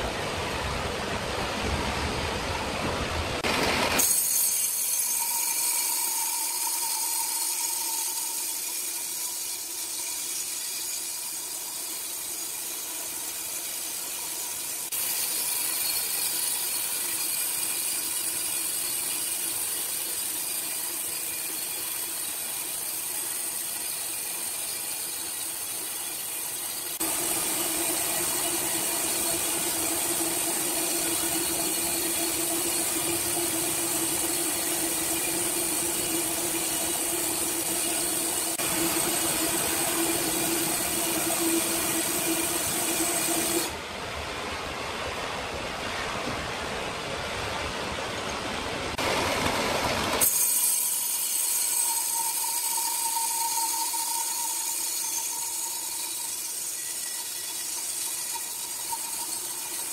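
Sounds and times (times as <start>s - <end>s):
band saw cutting timber: 3.4s - 43.8s, 49.0s - 59.9s.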